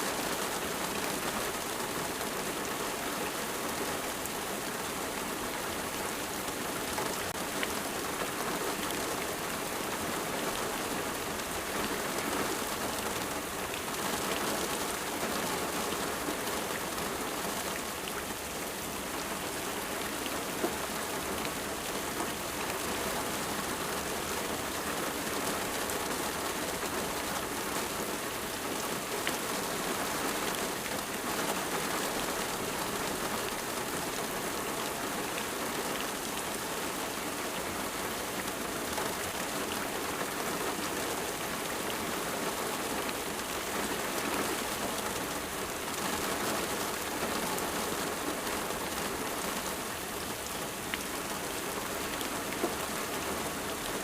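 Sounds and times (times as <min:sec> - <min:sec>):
rain pattering on a surface: 0:00.0 - 0:54.0.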